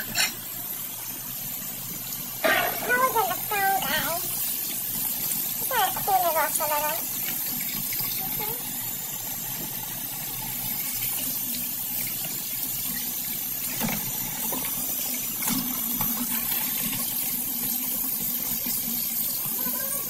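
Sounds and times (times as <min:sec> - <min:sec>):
faucet running into steel sink: 0:00.0 - 0:20.0.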